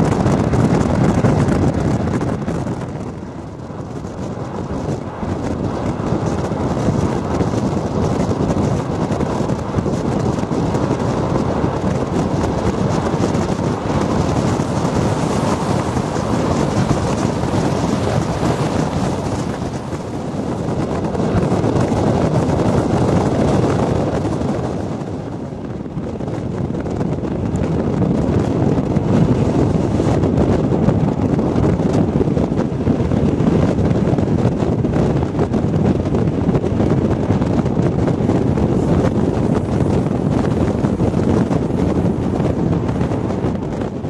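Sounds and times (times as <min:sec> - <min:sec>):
train running noise inside carriage: 0:00.0 - 0:44.0.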